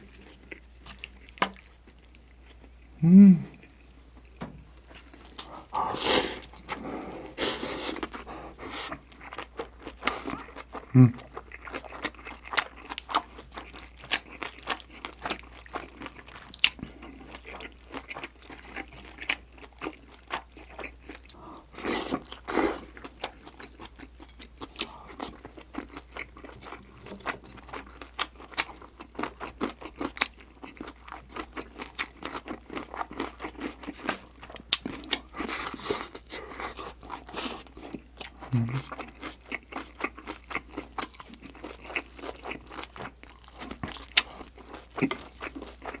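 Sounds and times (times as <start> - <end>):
chewing and crunching food: 0.0 - 46.0.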